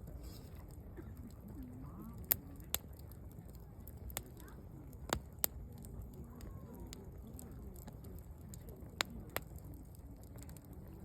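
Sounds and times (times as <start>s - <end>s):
low rustle of flames: 0.0s - 11.0s
campfire wood crackling pops: 0.5s - 11.0s.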